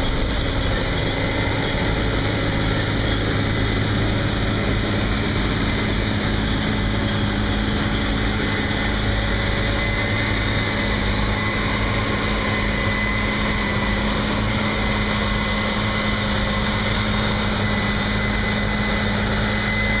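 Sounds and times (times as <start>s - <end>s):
faint high whine: 0.0s - 20.0s
harvesting machinery engine drone: 0.0s - 20.0s.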